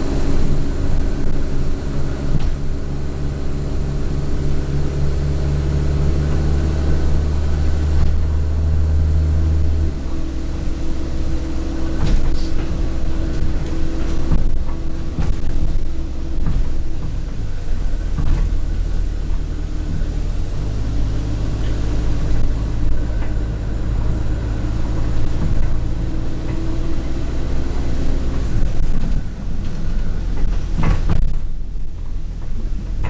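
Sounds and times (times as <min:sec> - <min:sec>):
high-pitched turbo whine: 0:00.0 - 0:31.9
bus diesel engine running: 0:00.0 - 0:33.0
bus interior rattles: 0:00.0 - 0:33.0.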